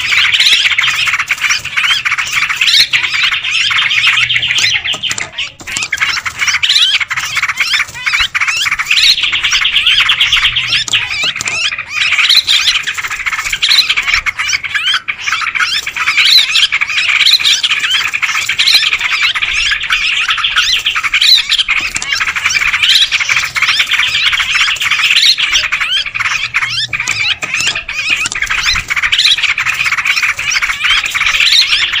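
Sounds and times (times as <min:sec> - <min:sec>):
flock of birds chattering: 0:00.0 - 0:32.0
rising-and-falling bird calls: 0:00.0 - 0:32.0.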